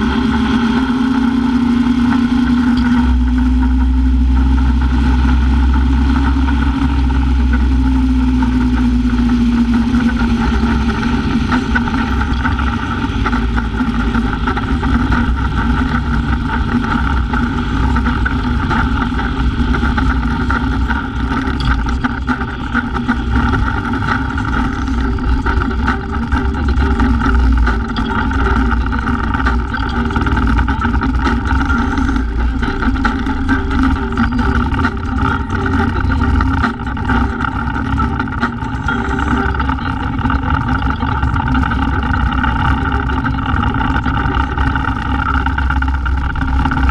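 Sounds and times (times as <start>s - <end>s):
motorcycle engine drone: 0.0s - 46.9s
wind and road noise: 0.0s - 46.9s.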